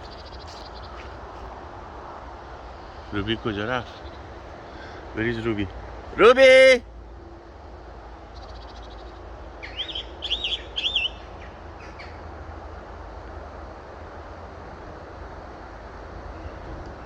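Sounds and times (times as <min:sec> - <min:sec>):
low rumble of wind: 0:00.0 - 0:17.0.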